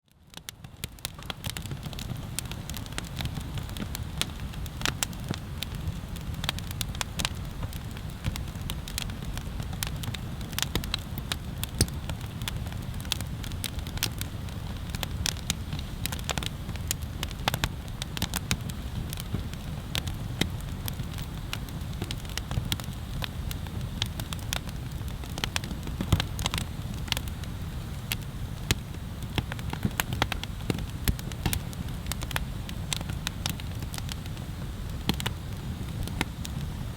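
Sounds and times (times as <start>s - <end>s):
bonfire crackling: 0.1s - 36.9s.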